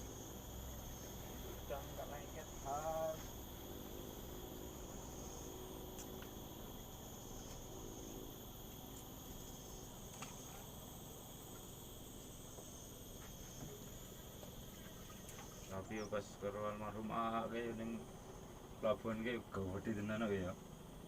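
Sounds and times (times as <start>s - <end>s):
crickets chirring: 0.0s - 21.0s
low background hum: 0.0s - 21.0s.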